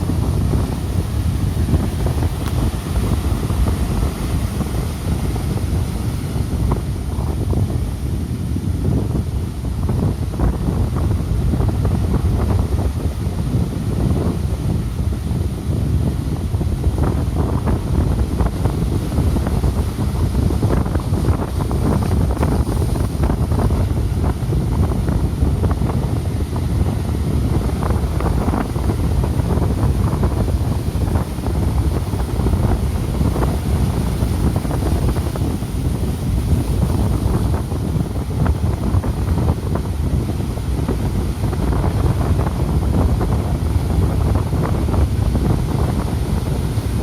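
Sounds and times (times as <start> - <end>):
heavy surf rumble: 0.0 - 47.0
wind buffeting microphone: 0.0 - 47.0.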